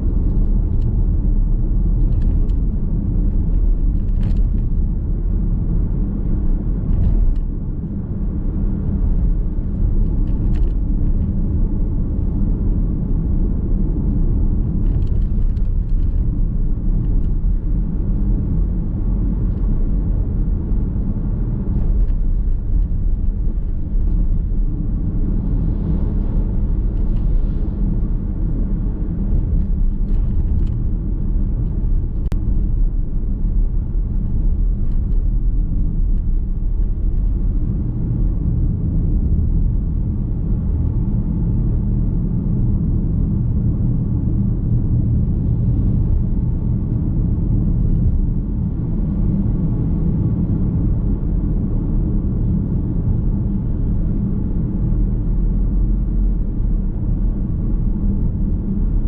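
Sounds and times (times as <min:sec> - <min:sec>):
car tyre and road noise: 0:00.0 - 0:59.0.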